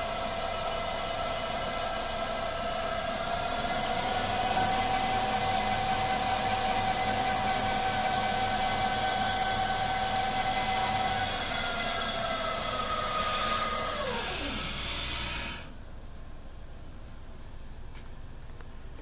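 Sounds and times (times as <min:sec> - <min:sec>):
lathe spindle whine: 0:00.0 - 0:15.8.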